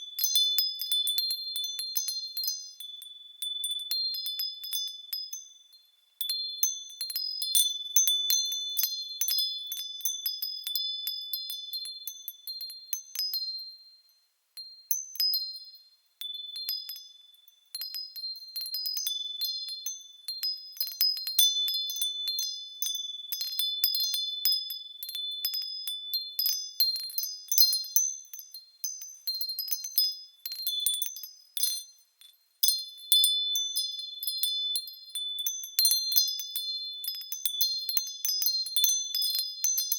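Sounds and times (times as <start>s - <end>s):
wind chimes ringing: 0.0s - 13.8s, 14.6s - 39.9s.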